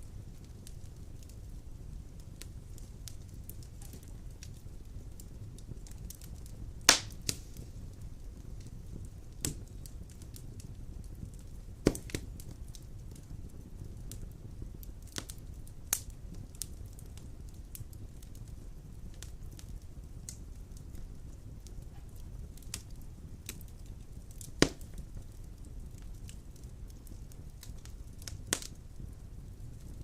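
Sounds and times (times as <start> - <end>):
fire crackling and popping: 0.0 - 30.0
rumble of flames: 0.0 - 30.0.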